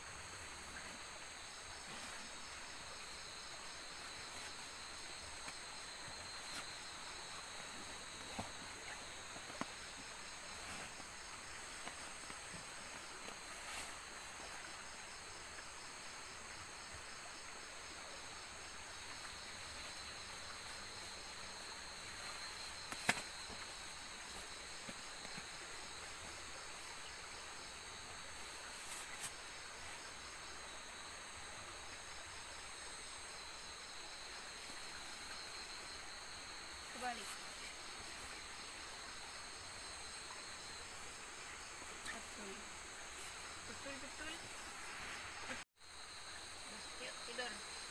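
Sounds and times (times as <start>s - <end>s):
insects chirping chorus: 0.0s - 47.9s.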